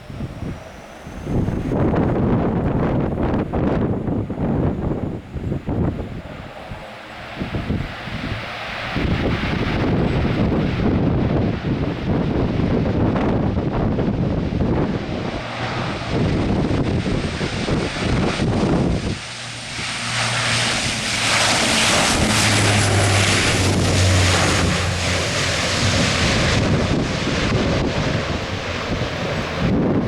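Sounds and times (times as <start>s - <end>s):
turboprop airliner at takeoff: 0.0s - 30.0s
wind buffeting microphone: 0.0s - 30.0s.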